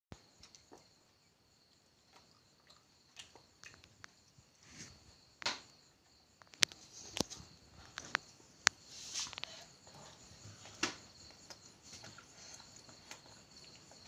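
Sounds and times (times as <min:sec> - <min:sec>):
child chewing: 0:00.2 - 0:05.0, 0:06.4 - 0:14.0.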